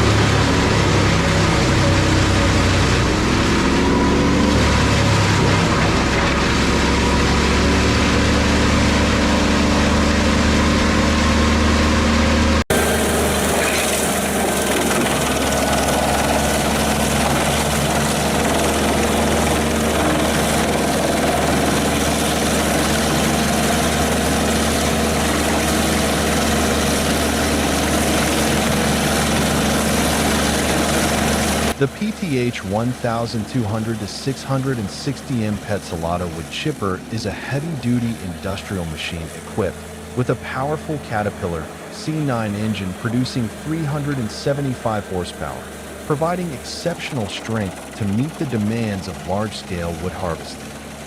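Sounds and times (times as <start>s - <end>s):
wood chipper diesel engine: 0.0s - 51.0s.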